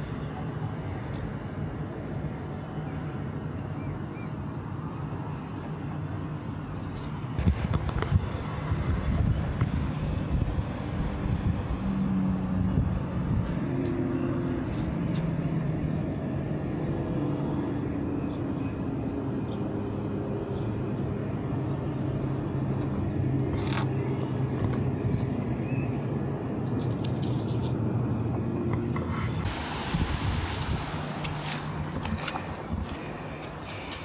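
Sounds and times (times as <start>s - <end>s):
car engines rumbling: 4.4s - 34.0s.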